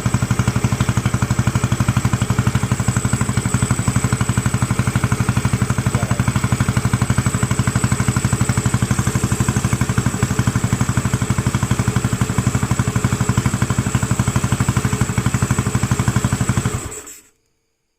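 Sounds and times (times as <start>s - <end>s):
engine idling: 0.0s - 17.2s.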